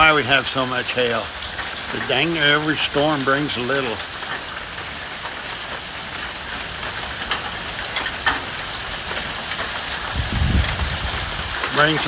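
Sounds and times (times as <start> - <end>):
sharp ticks of raindrops: 0.0 - 12.0
steady rain falling: 0.0 - 12.0.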